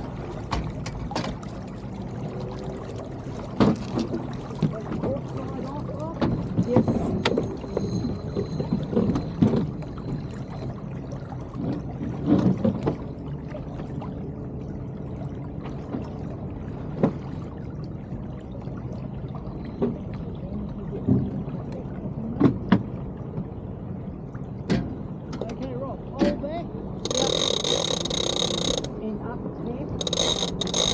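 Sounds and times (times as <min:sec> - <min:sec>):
water trickling along hull: 0:00.0 - 0:30.9.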